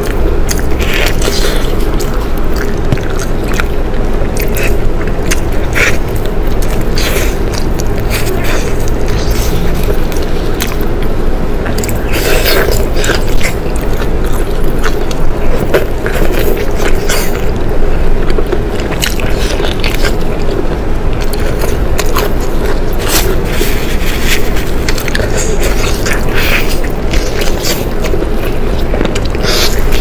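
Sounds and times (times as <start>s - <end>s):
low background hum: 0.0s - 30.0s
person chewing meat: 0.0s - 30.0s.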